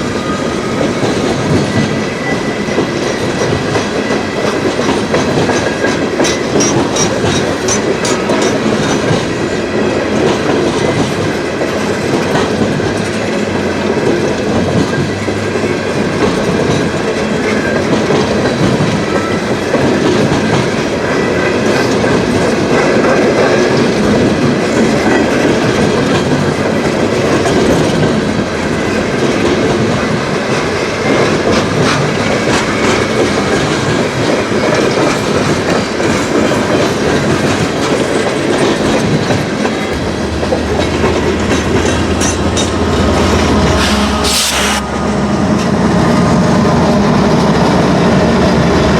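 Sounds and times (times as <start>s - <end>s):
freight train wheels clicking over rail joints: 0.0s - 48.9s.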